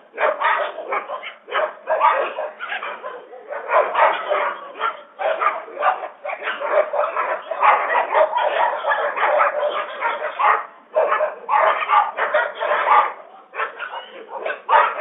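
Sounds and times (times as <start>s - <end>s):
dogs barking rapidly: 0.0s - 15.0s.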